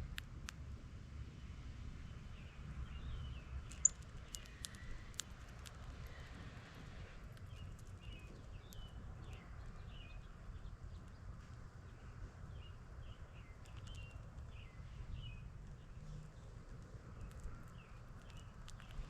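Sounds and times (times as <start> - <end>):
small songbird chirping: 2.1 - 6.4, 7.3 - 19.0.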